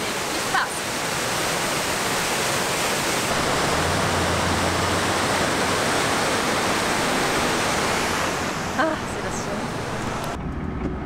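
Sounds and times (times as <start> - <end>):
waterfall rushing over rocks: 0.0 - 10.4.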